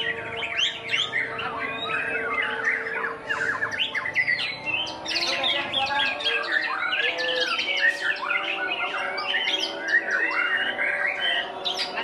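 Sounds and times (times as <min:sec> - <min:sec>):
other songbirds calling: 0:00.0 - 0:12.0
songbird singing: 0:00.0 - 0:12.0.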